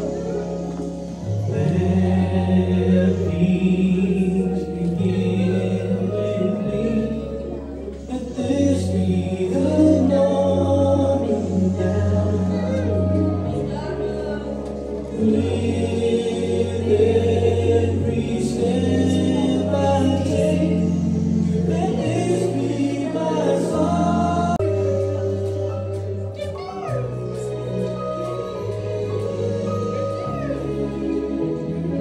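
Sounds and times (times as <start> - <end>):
group singing gospel song: 0.0 - 25.7, 27.4 - 32.0.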